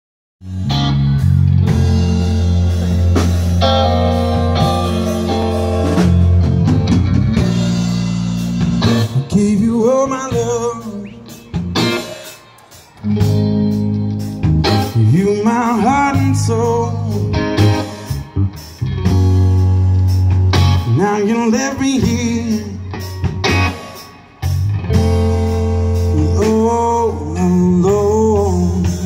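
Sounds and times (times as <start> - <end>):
live rock band playing: 0.4 - 29.0.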